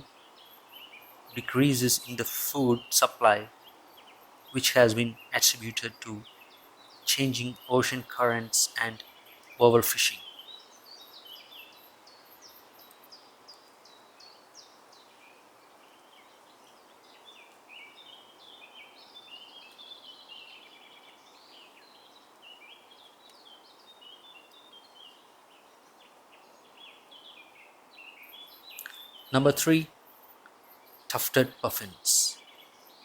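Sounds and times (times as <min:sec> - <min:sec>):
faint outdoor ambience hiss: 0:00.0 - 0:33.0
small birds chirping: 0:00.0 - 0:33.0.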